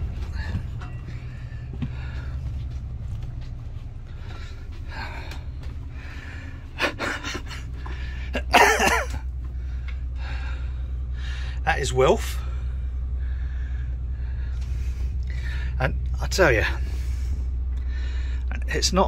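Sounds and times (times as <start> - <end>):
tractor engine rumble: 0.0 - 19.0.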